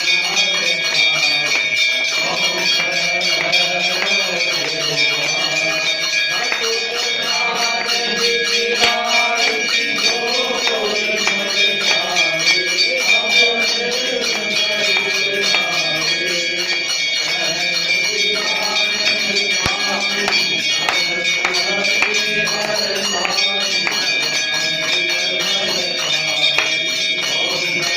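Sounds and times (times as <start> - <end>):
bells ringing: 0.0 - 27.9
jingling shaken percussion: 0.0 - 27.9
voices singing: 0.0 - 27.9.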